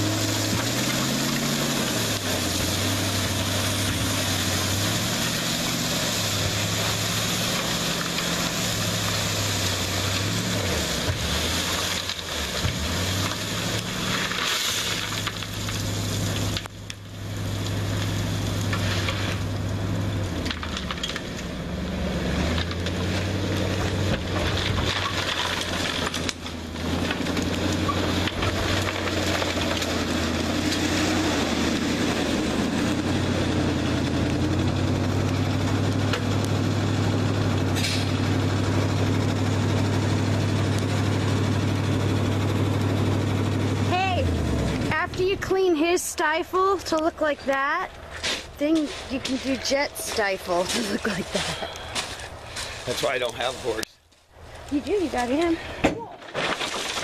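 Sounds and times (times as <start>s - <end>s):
gravel pouring and crunching: 0.0s - 43.9s, 44.8s - 57.0s
truck engine droning: 0.0s - 57.0s.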